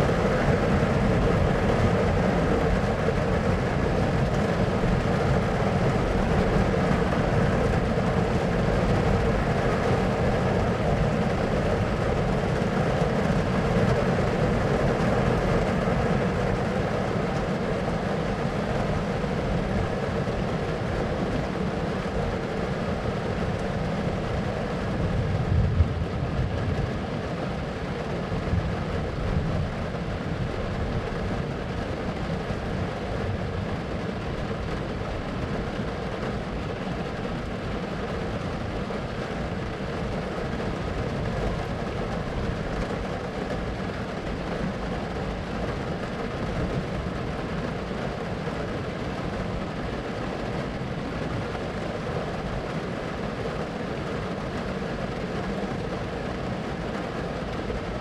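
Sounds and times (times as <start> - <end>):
steady rumbling noise: 0.0 - 58.0.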